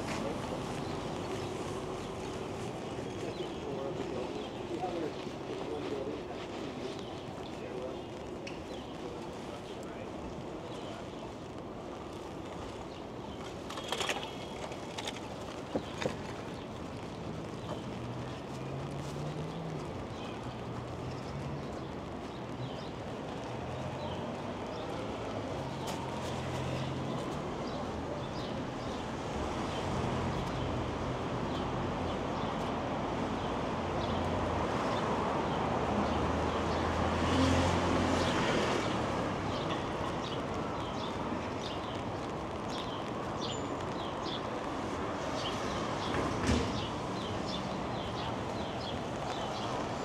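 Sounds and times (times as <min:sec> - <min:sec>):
hum of traffic: 0:00.0 - 0:50.0.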